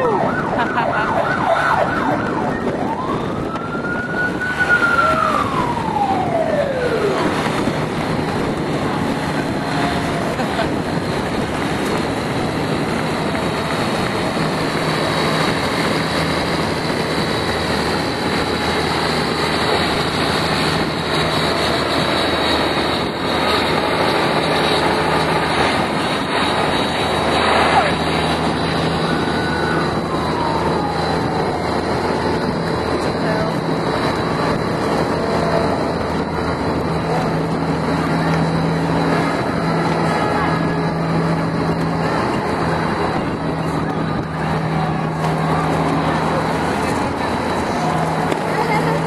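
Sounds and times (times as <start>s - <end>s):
emergency siren yelp and wail: 0.0s - 49.0s
vehicle engines: 0.0s - 49.0s
crowd noise: 4.3s - 49.0s.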